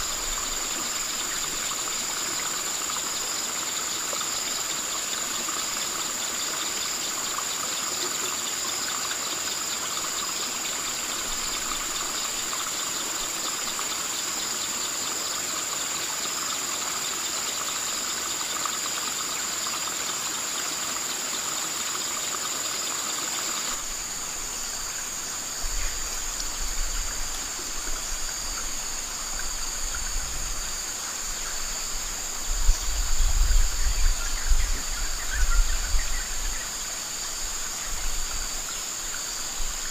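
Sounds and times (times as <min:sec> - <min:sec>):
high-pitched insect chorus: 0:00.0 - 0:39.9
steady hiss: 0:00.0 - 0:39.9.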